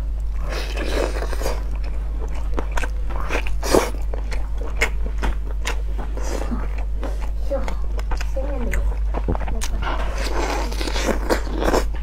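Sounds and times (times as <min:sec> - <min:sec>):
person chewing meat: 0:00.0 - 0:12.0
steady low hum: 0:00.0 - 0:12.0.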